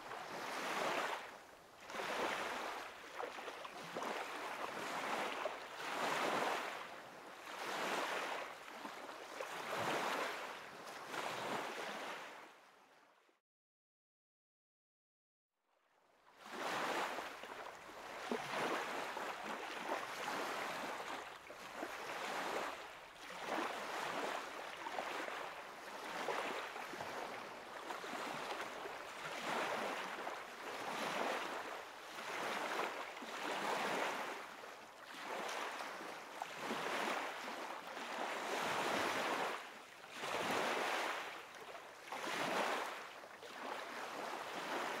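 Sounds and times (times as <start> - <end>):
small waves washing onto shore: 0.0 - 12.6, 16.3 - 45.0.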